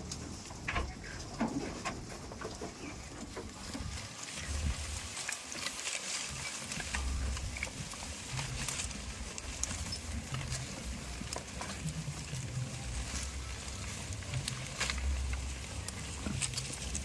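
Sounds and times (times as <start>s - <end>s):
goats moving about: 0.0s - 17.0s.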